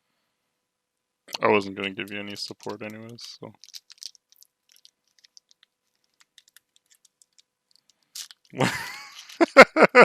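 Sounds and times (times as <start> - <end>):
trading cards clicking: 1.4 - 9.6.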